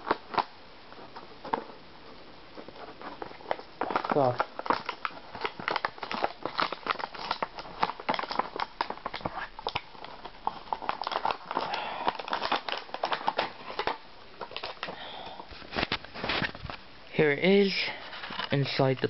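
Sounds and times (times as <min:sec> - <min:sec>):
packaging clicks and crinkles: 0:00.0 - 0:16.8, 0:17.6 - 0:19.0
packaging rustling: 0:00.0 - 0:16.9, 0:17.5 - 0:19.0.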